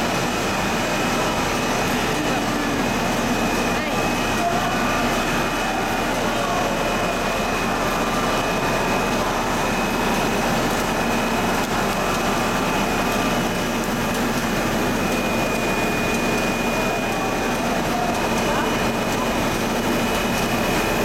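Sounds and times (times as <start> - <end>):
air blowers whining: 0.0 - 21.0
extrusion line machinery running: 0.0 - 21.0.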